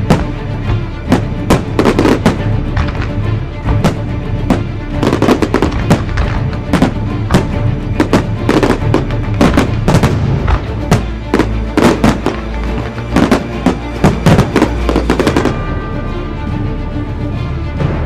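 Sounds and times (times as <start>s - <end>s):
music playing: 0.0s - 18.0s
fireworks bangs: 1.1s - 15.6s.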